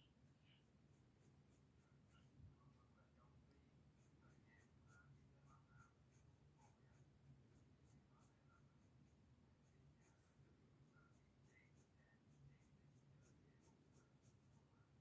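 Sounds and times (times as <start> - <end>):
pencil scratching on paper: 0.0 - 2.7, 3.8 - 15.0.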